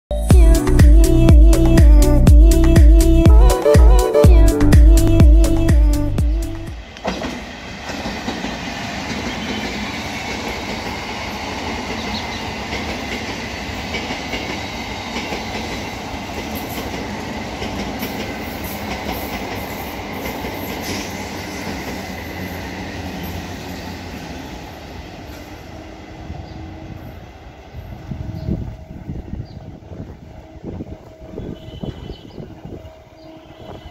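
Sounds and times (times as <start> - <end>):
electric train passing: 0.4 - 33.9
train high whine: 6.2 - 33.9.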